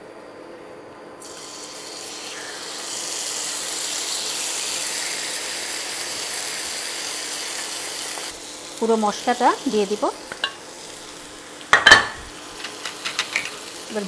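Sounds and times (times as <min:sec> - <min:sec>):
meat sizzling in hot oil: 0:01.2 - 0:14.0.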